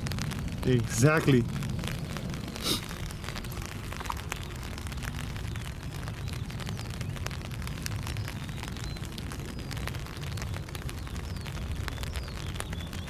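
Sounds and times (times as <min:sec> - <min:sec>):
jet engines rumbling at taxi: 0:00.0 - 0:13.0
rain pattering: 0:00.0 - 0:13.0.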